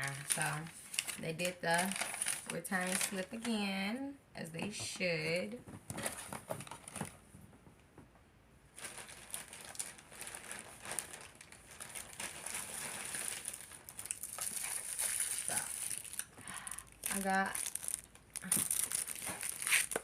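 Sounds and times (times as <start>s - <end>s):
packaging crinkling and rustling: 0.0s - 3.6s, 5.7s - 7.2s, 8.7s - 20.0s.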